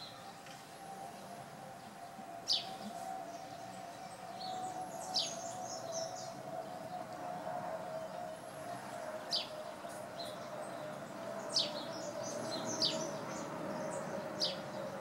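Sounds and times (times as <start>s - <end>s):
faint background tone: 0.0s - 15.0s
small birds chirping: 0.0s - 15.0s.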